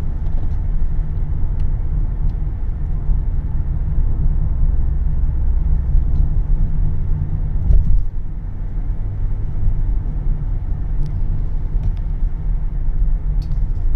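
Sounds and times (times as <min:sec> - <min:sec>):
car road rumble: 0:00.0 - 0:13.9.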